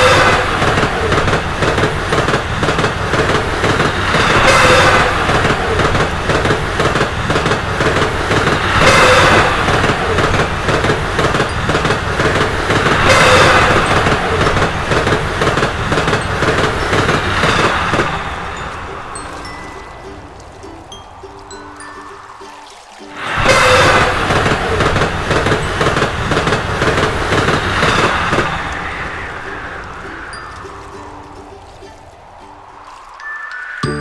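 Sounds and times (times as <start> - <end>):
train wheels clattering: 0.0 - 22.0, 23.5 - 31.4.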